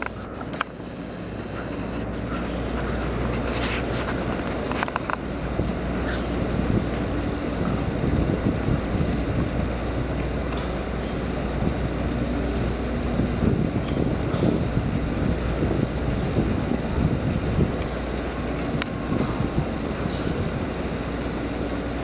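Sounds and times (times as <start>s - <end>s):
faint hum: 0.0s - 22.0s
subway train rumble: 0.0s - 22.0s.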